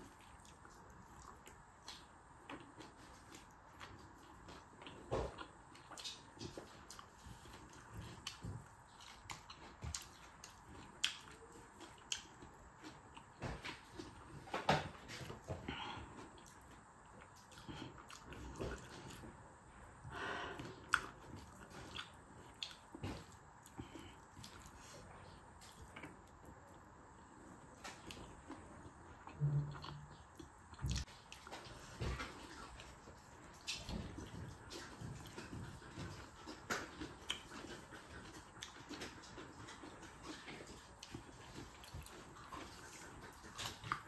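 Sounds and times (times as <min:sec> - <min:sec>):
chewing: 0:00.0 - 0:44.0.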